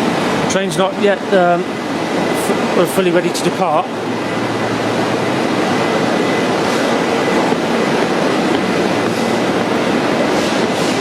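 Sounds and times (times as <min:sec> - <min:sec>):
train rumbling at platform: 0:00.0 - 0:11.0.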